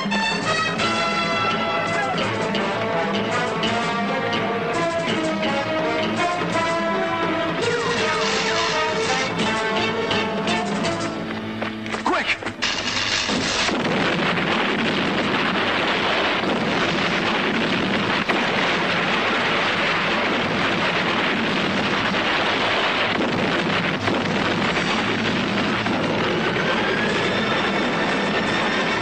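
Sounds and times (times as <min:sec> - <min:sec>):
explosion and fire roar: 0:00.0 - 0:11.5, 0:12.1 - 0:29.0
sharp cracks: 0:00.0 - 0:27.2.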